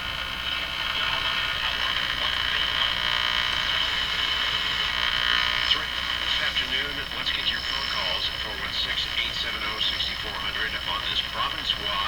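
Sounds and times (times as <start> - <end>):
radio interference buzz: 0.0 - 12.0.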